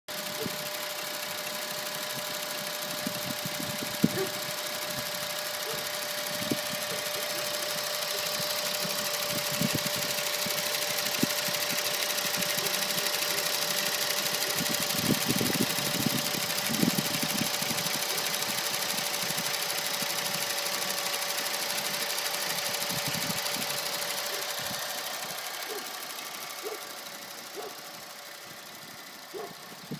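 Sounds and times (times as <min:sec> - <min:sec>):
car engine idling: 0:00.1 - 0:29.9
fast engine clicking: 0:00.1 - 0:29.9.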